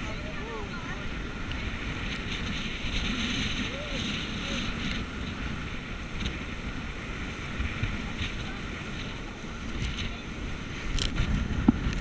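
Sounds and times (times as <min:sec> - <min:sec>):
rushing water and spray: 0:00.0 - 0:12.0
wind buffeting microphone: 0:00.0 - 0:12.0.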